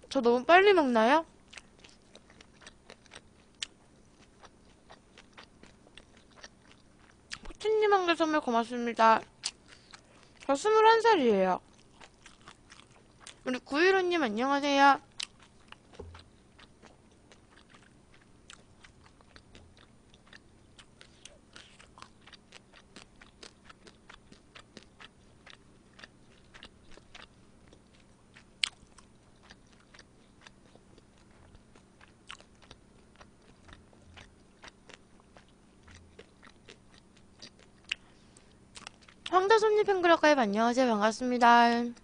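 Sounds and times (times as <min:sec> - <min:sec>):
close-miked chewing: 0:01.4 - 0:08.2, 0:09.0 - 0:40.6.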